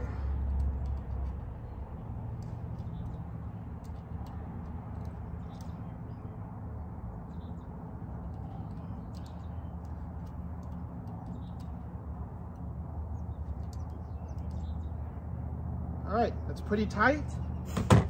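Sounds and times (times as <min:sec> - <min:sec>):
small birds chirping: 0:00.0 - 0:17.8
low outdoor rumble: 0:00.0 - 0:18.0.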